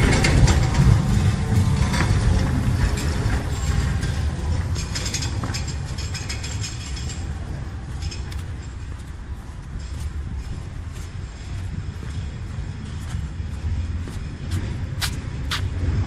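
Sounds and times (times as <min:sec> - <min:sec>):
rapid metallic clicking and rattling: 0:00.0 - 0:16.0
tram rumbling past: 0:00.0 - 0:16.0.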